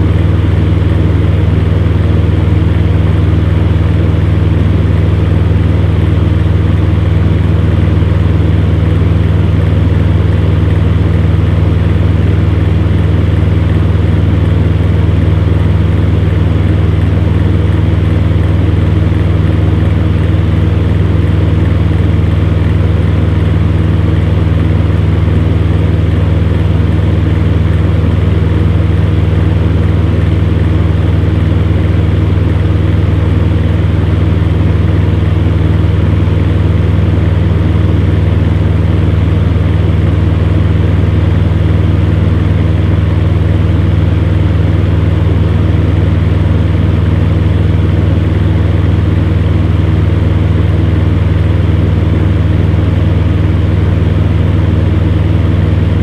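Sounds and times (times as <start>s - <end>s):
fan heater humming and whirring: 0.0s - 56.0s.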